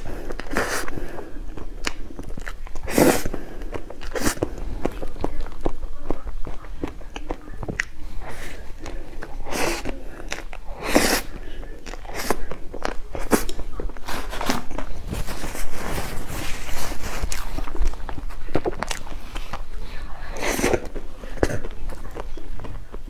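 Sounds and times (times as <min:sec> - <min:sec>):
chewing and biting: 0:00.0 - 0:23.0.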